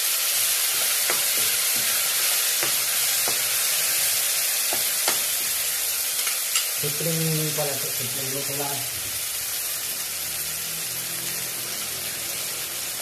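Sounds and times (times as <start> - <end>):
fish sizzling in a wok: 0.0 - 13.0.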